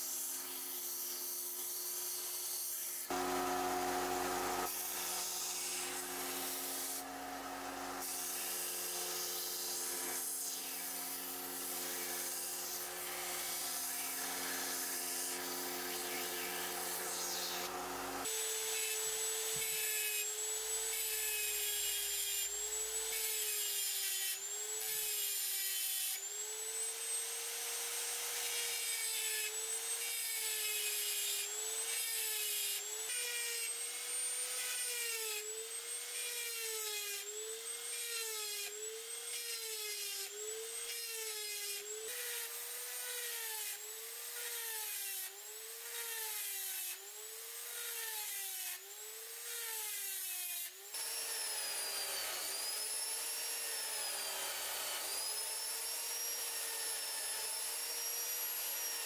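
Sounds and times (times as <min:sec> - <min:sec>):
rotary tool grinding metal: 0:00.0 - 0:59.0.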